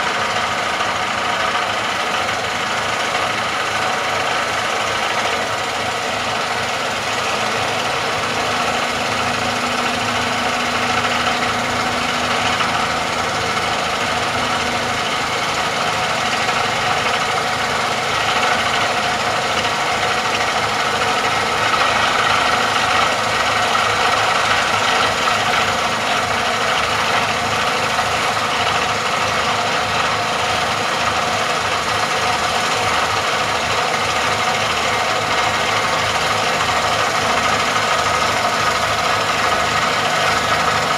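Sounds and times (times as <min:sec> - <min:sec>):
vibratory hammer running: 0:00.0 - 0:40.9.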